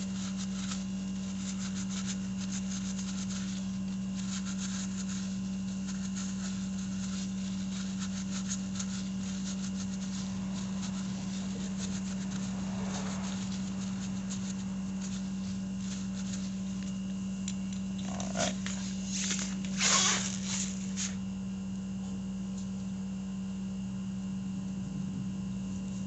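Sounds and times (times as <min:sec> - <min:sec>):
scrubbing brake caliper: 0:00.0 - 0:21.2
steady low hum: 0:00.0 - 0:26.0.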